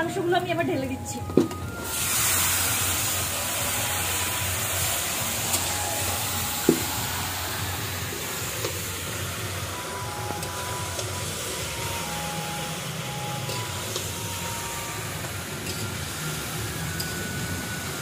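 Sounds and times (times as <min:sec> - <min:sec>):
meat sizzling in hot oil: 0:01.6 - 0:18.0.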